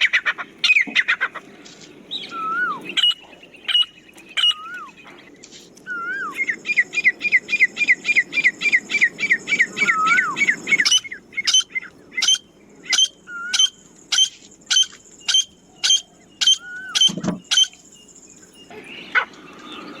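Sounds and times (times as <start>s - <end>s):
francolin calling: 0.0s - 20.0s.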